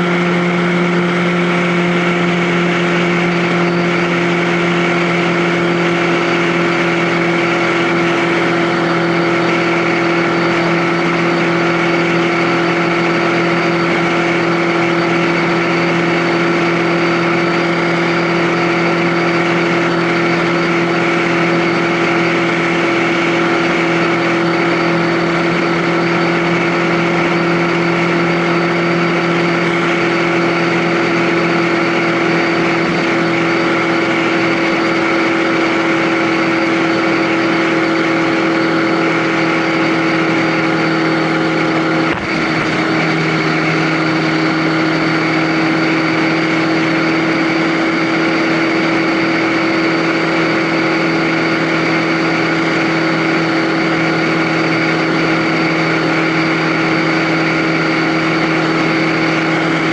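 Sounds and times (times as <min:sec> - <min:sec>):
road noise: 0:00.0 - 0:59.9
vehicle engine cruising: 0:00.0 - 0:59.9.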